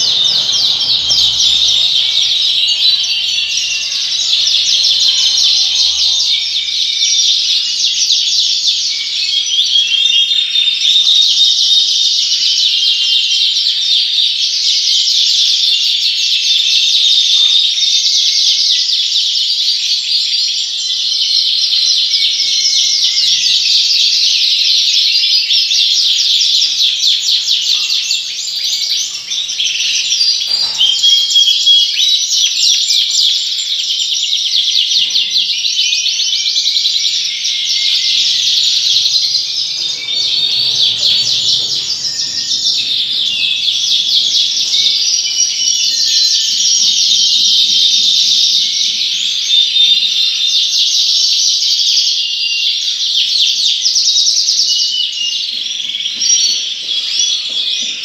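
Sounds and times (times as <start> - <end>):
canaries singing and chirping: 0.0 - 58.0.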